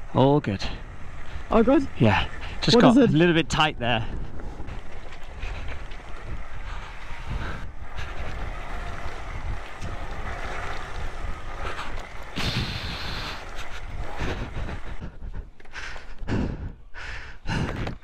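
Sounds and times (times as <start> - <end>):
motorcycle engine running: 0.0 - 18.0
wind rushing over microphone: 0.8 - 15.5.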